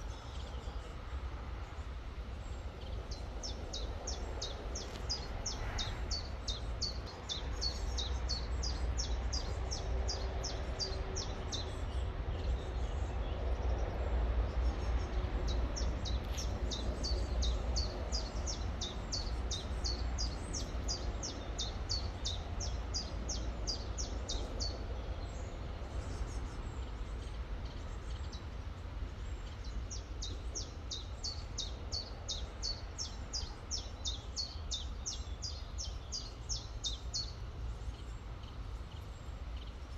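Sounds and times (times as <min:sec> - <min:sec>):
songbird chirping: 0:01.7 - 0:39.9.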